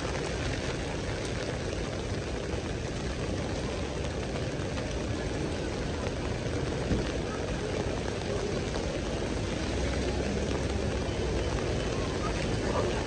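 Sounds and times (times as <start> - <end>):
low traffic noise: 0.0 - 13.0
rain on wet pavement: 0.0 - 13.0.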